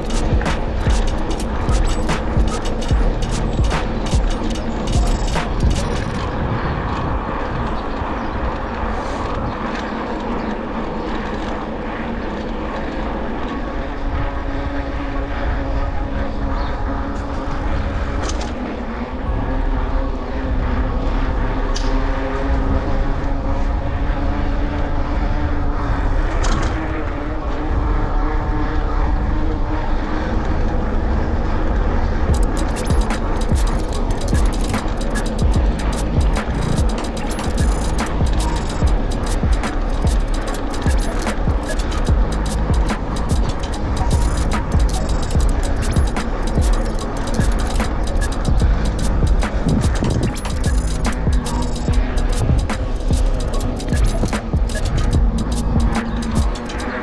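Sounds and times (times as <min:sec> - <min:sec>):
steady motor drone: 0:00.0 - 0:57.0
wind rumbling over microphone: 0:00.0 - 0:57.0.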